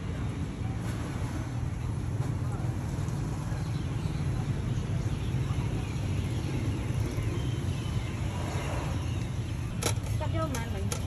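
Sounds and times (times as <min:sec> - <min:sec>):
motorbike and traffic rumble: 0:00.0 - 0:11.0.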